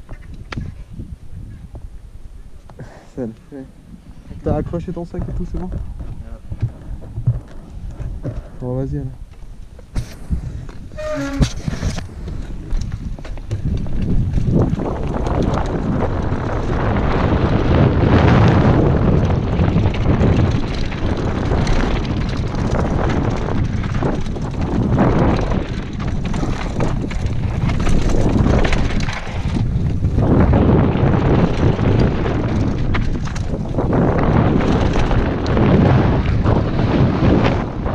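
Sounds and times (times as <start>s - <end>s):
wind buffeting microphone: 0.0s - 37.9s
bike knocking and rattling: 4.4s - 37.9s
tyres rolling on dirt: 4.4s - 37.9s.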